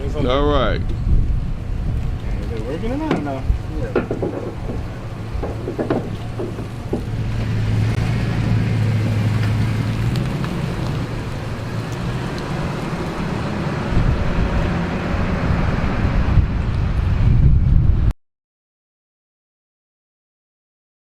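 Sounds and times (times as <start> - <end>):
vehicle engine hum: 0.0 - 18.1
road and wind noise: 0.0 - 18.2.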